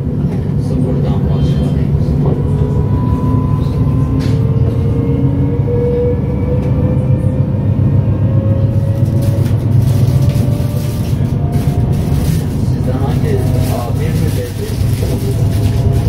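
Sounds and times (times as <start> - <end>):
train wheels rumbling on rails: 0.0 - 16.0
traction drive whine: 1.4 - 16.0.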